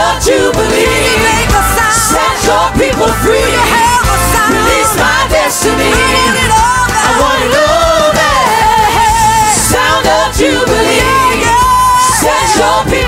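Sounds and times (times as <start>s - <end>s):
gospel singers singing: 0.0s - 13.0s
live band playing: 0.0s - 13.0s.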